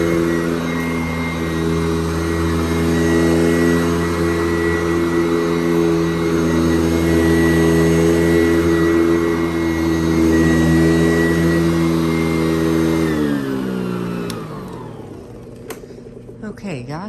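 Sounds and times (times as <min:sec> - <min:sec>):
vacuum motor winding down: 0:00.0 - 0:16.4
upright vacuum cleaner running: 0:00.0 - 0:17.0.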